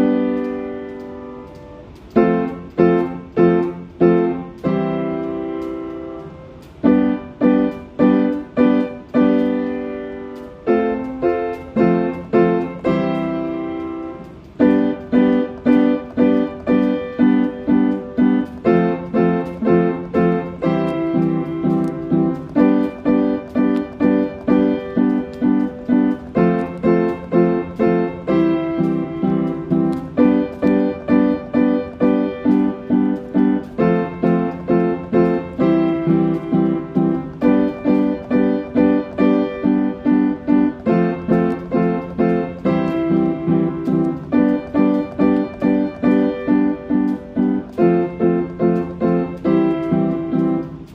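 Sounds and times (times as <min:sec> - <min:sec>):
piano chords on keyboard: 0:00.0 - 0:50.9.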